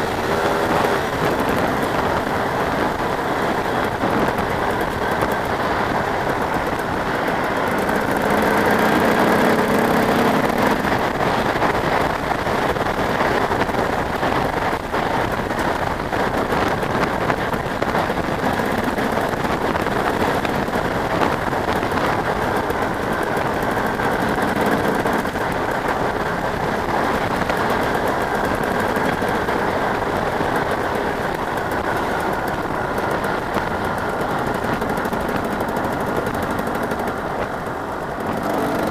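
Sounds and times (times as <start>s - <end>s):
motorbike passing: 0.0s - 38.9s.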